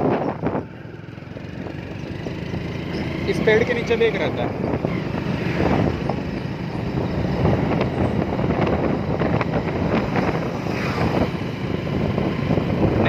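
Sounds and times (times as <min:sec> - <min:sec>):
motorbike engine: 0:00.0 - 0:13.0
road noise: 0:00.0 - 0:13.0
wind buffeting microphone: 0:00.0 - 0:13.0.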